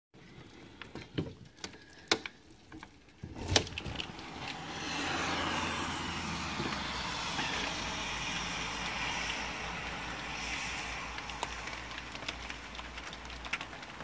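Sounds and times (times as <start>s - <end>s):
rain falling: 0.2s - 14.0s.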